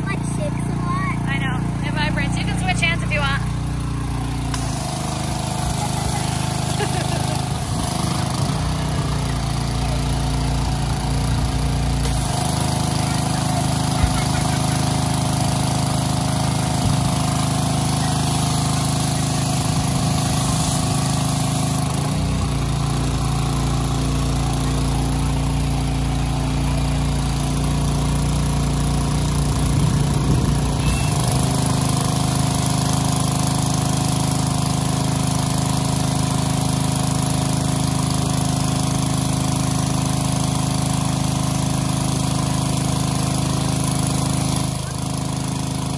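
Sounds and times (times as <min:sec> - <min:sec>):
pressure washer engine running: 0:00.0 - 0:45.9.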